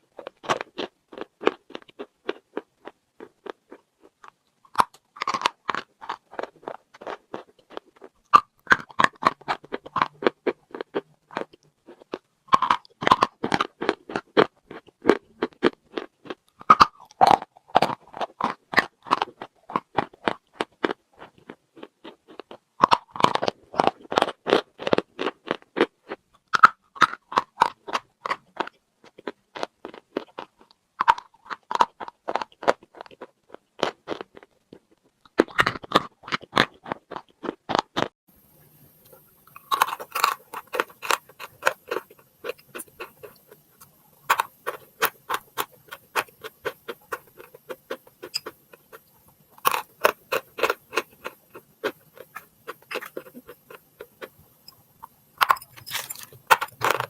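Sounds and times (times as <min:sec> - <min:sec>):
rapid crunching of chewing: 0:00.0 - 0:57.0.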